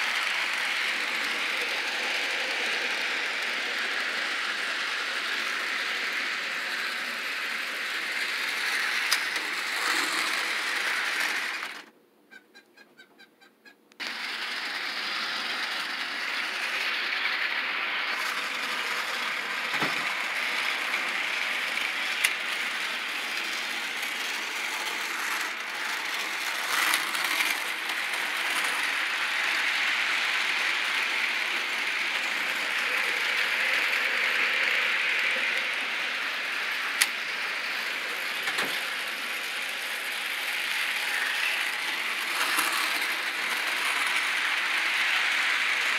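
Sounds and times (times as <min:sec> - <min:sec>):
model train motor whirring: 0:00.0 - 0:11.9, 0:14.0 - 0:45.9.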